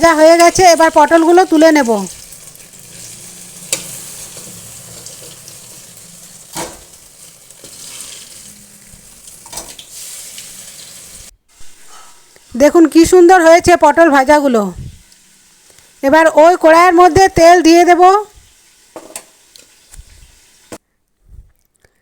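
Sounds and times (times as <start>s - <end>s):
food sizzling in hot oil: 0.0s - 20.8s.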